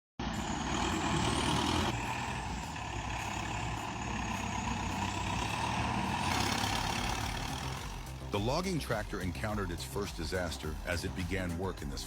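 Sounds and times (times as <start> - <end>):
heavy vehicle engine running: 0.2 - 12.0.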